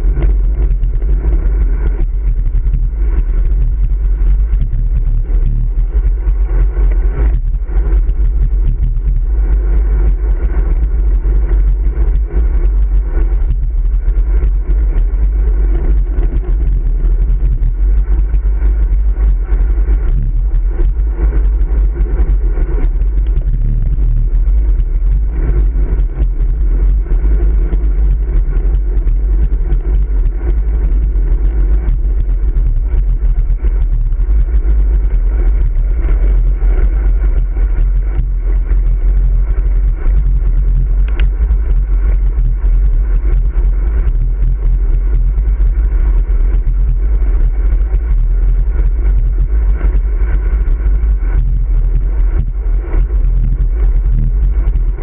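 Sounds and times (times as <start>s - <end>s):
bicycle road noise: 0.0s - 55.0s
deep wind rumble: 0.0s - 55.0s.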